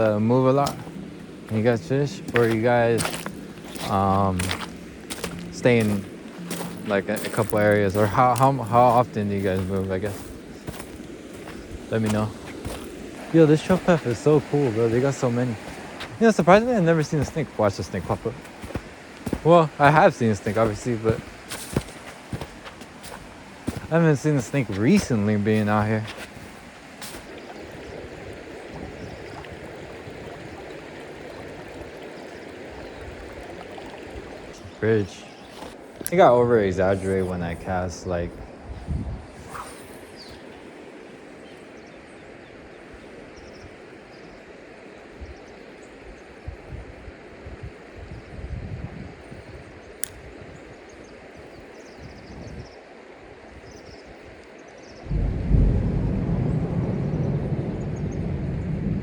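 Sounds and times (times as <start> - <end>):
wind buffeting microphone: 0.0 - 43.9, 46.4 - 52.8, 53.5 - 59.0
river water running: 0.0 - 59.0.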